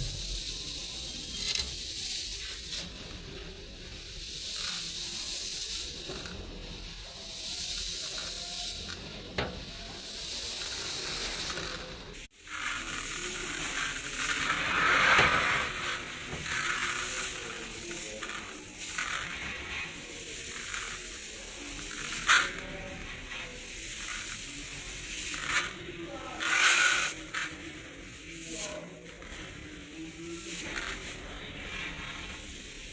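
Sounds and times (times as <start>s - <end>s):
dry rice grains rattling: 0.0s - 32.9s.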